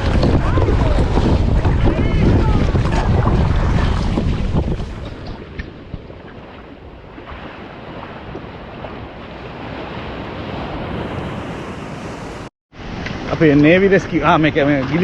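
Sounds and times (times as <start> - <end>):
sea waves surf: 0.0 - 15.0
wind buffeting microphone: 0.0 - 15.0.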